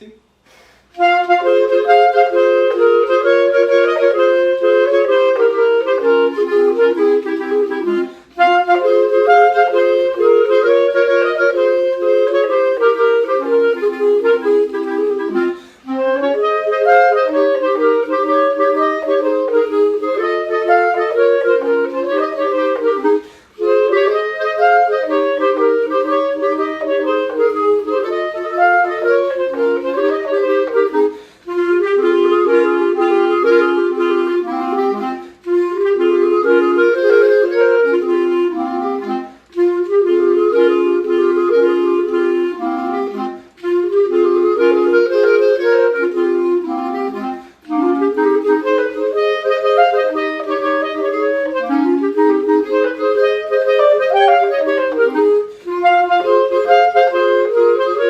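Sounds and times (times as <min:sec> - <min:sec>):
clarinet duet: 0:00.0 - 0:58.0.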